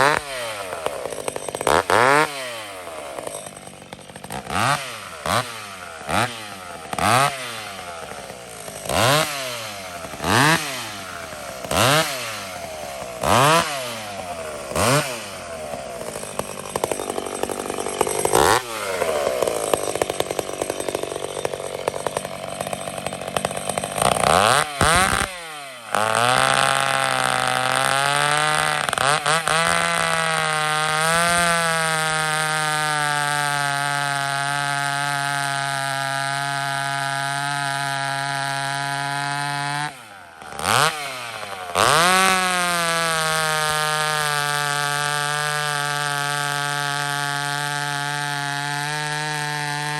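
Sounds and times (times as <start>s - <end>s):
chainsaw revving: 0.0s - 49.9s.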